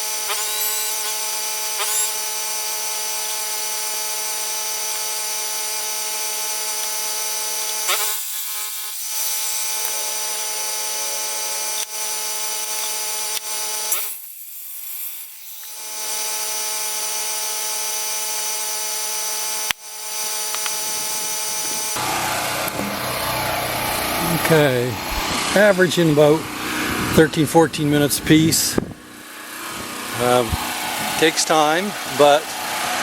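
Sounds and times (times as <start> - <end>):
power tool cutting wood: 0.0 - 27.2, 29.3 - 33.0.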